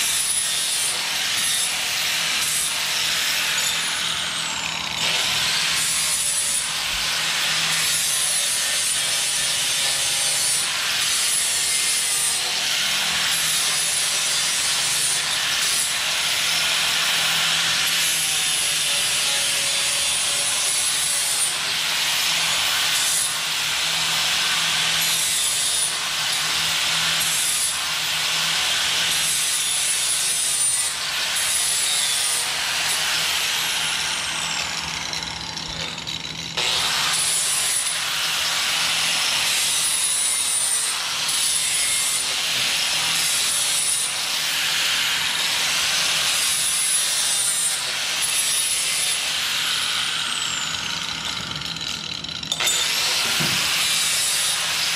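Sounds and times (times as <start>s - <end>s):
angle grinder grinding steel: 0.0s - 54.9s.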